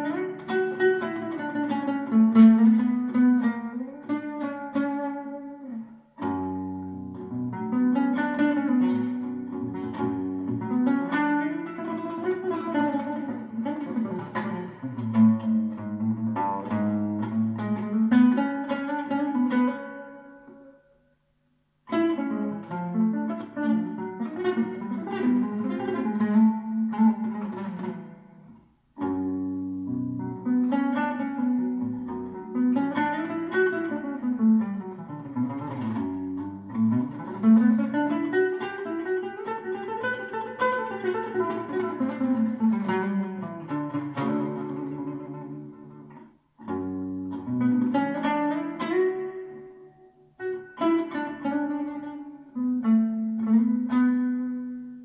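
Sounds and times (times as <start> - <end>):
fingerpicked classical guitar: 0.0 - 55.0.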